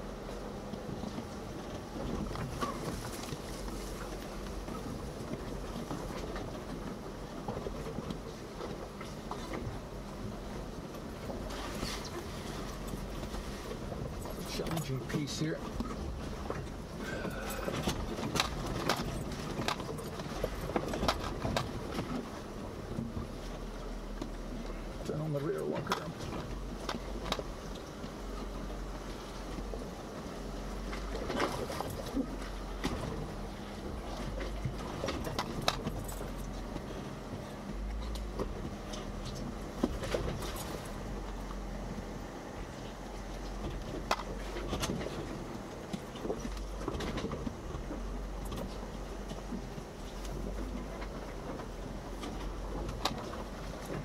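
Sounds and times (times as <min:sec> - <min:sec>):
low engine rumble: 0:00.0 - 0:54.0
suspension clunking over rocks: 0:00.0 - 0:54.0.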